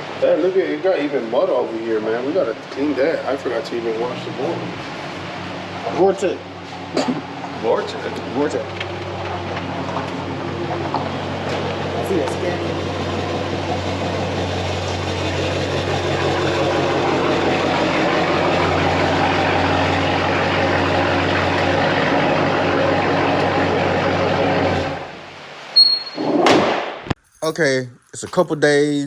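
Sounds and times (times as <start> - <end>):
car engine idling: 0.0 - 25.3.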